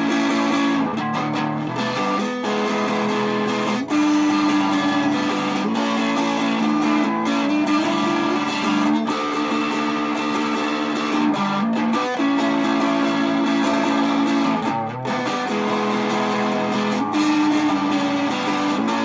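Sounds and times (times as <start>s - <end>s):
guitar chords: 0.0s - 19.0s.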